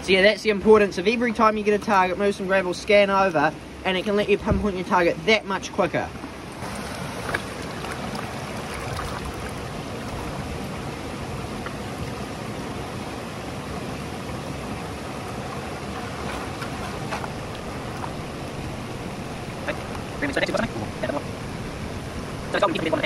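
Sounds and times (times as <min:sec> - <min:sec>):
creek running over rocks: 0:00.0 - 0:23.0.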